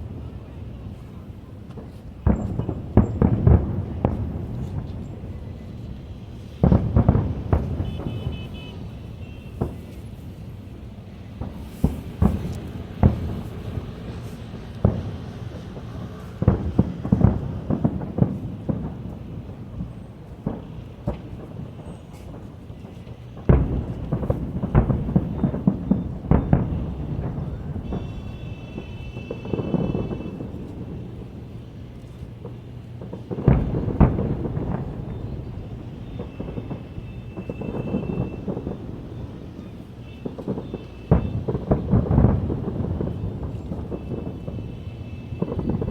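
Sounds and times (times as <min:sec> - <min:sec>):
firework shells booming: 0:01.8 - 0:45.9.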